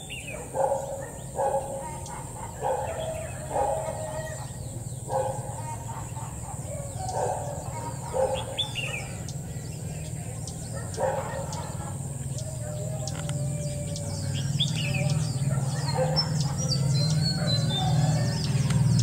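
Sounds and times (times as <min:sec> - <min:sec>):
bird calling: 0:00.0 - 0:19.0
steady low hum: 0:00.0 - 0:19.0.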